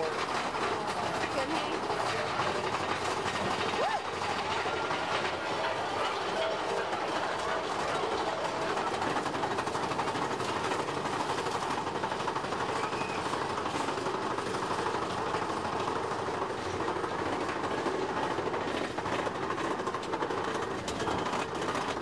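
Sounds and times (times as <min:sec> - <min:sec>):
roller coaster rattling on rails: 0:00.0 - 0:22.0.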